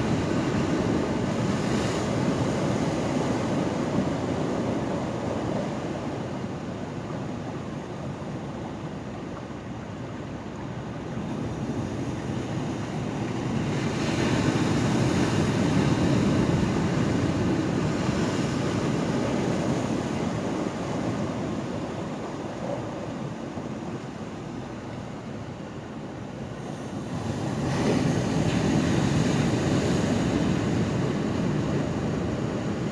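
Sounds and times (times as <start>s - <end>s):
ocean waves washing in: 0.0s - 32.9s.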